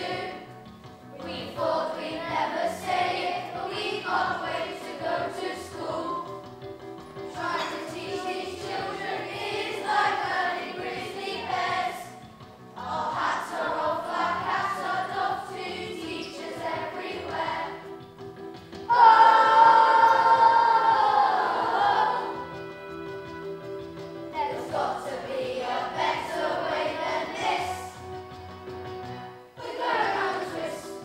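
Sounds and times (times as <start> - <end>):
children's choir singing: 0.0 - 6.5, 7.2 - 18.0, 18.8 - 23.3, 24.2 - 28.4, 29.5 - 31.0.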